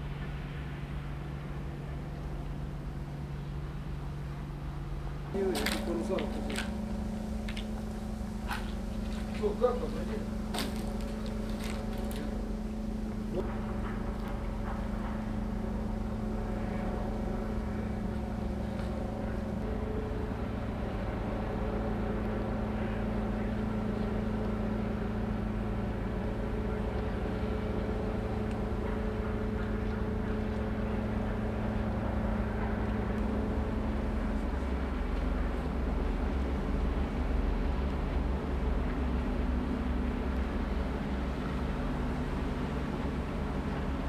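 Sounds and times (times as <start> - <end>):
ship diesel engines droning: 0.0 - 44.0.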